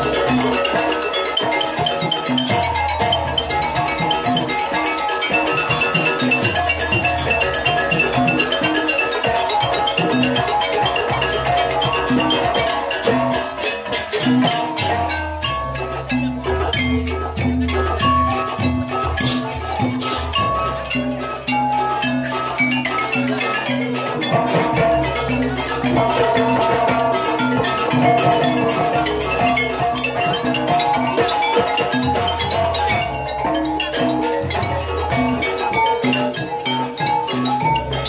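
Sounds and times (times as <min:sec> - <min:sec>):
drums: 0:00.0 - 0:38.0
tuned metal percussion: 0:00.0 - 0:38.0.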